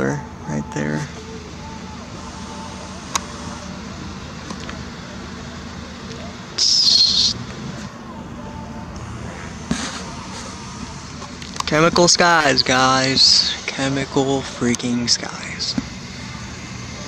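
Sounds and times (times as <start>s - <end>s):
high-pitched squeal: 0.0s - 17.0s
low hum: 0.0s - 17.0s.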